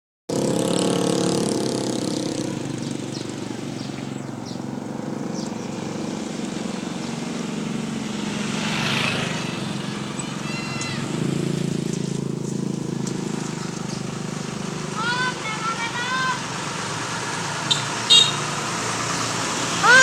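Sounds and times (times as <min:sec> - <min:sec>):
bus diesel engine running: 0:00.8 - 0:20.0.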